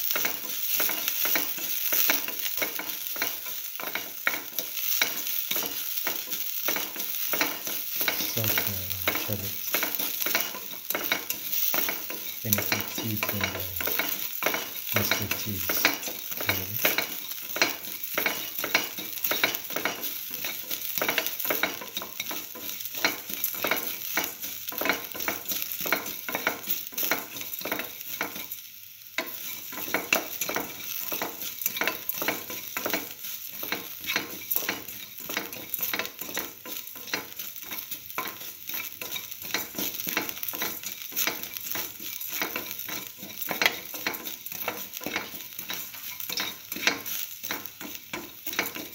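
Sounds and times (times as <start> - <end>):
shallots frying in hot oil: 0.0 - 48.9
spatula stirring in pan: 0.0 - 48.9.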